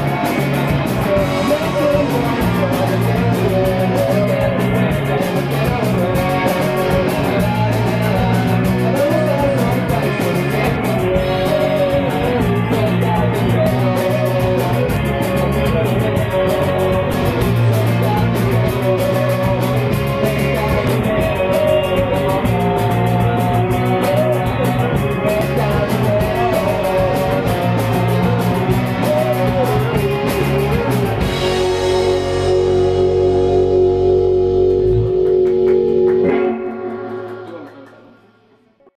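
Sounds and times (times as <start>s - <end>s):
rock band playing: 0.0s - 38.7s.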